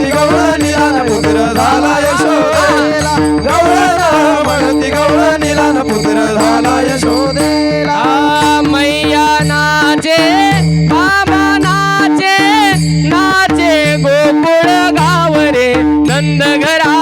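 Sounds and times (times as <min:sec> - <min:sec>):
small hand cymbals jingling: 0:00.0 - 0:14.4
person singing: 0:00.0 - 0:15.0.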